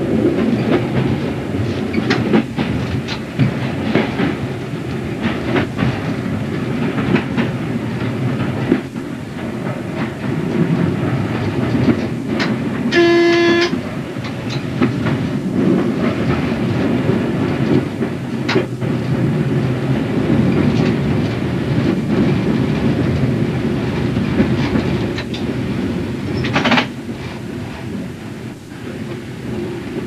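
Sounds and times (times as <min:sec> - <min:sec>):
wheels clicking over rail joints: 0:00.0 - 0:28.1
train rumbling on track: 0:00.0 - 0:30.0.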